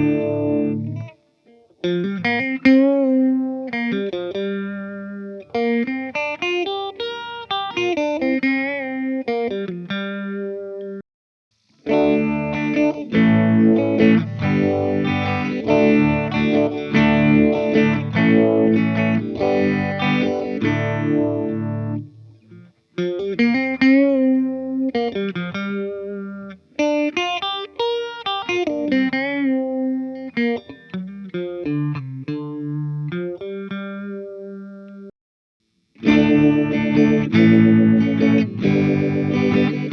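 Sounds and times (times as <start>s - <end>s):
electric guitar with phaser: 0.0s - 11.0s, 11.8s - 35.1s, 36.0s - 39.9s
guitar strumming chords: 0.0s - 11.0s, 11.8s - 35.1s, 36.0s - 39.9s.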